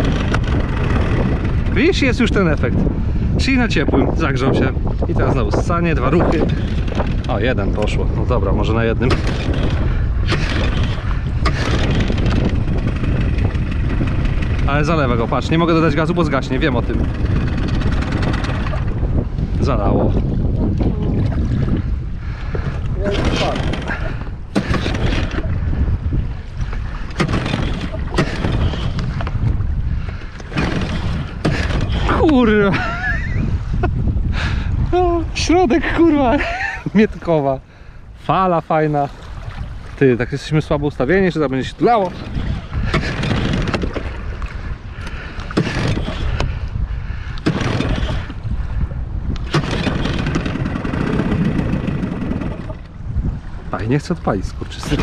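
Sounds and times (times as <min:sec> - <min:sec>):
outboard motor pull-start attempts: 0:00.0 - 0:34.8, 0:41.0 - 0:53.5, 0:54.4 - 0:55.0
low rumble: 0:00.0 - 0:55.0
water lapping against boat: 0:00.0 - 0:55.0
wind buffeting microphone: 0:00.0 - 0:55.0.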